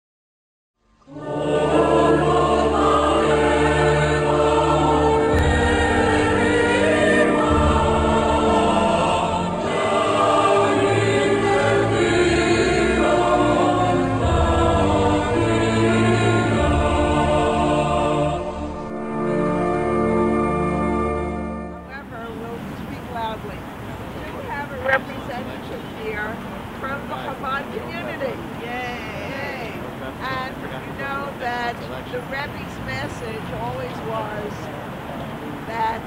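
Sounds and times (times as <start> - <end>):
choir singing sustained notes: 0.8 - 35.7.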